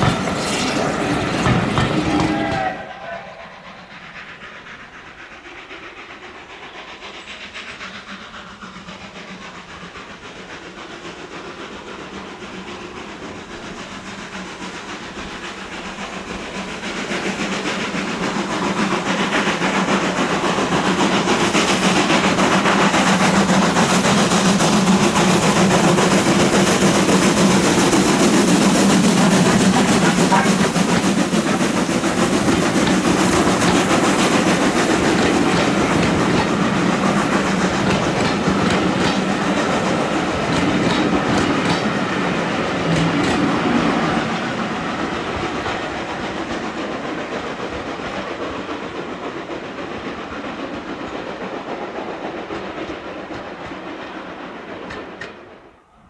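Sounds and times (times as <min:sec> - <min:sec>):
rail noise: 0:00.0 - 0:56.0
steam hiss: 0:00.0 - 0:56.0
steam train running: 0:00.0 - 0:56.0.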